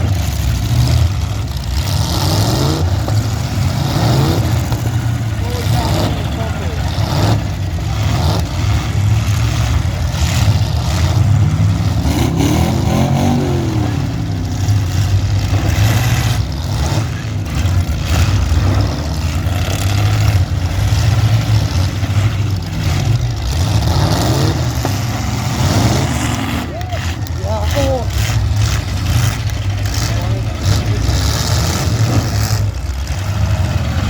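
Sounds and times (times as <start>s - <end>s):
car engines revving hard: 0.0s - 34.0s
cars crunching impacts: 0.0s - 34.0s.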